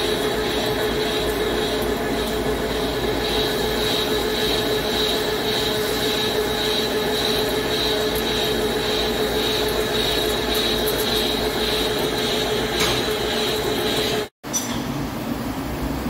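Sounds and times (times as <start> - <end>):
lathe machining with hum and whine: 0.0 - 16.0.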